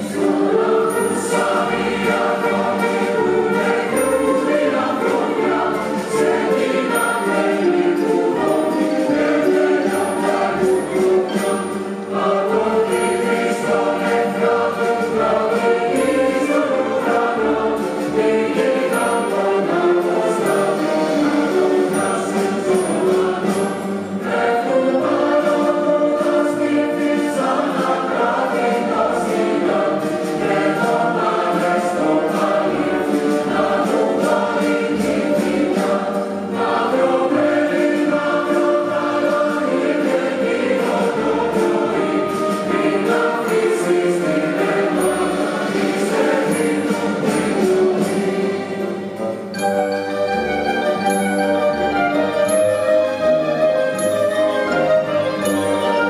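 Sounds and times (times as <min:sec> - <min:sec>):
large choir singing: 0:00.0 - 0:56.0
string orchestra: 0:00.0 - 0:56.0.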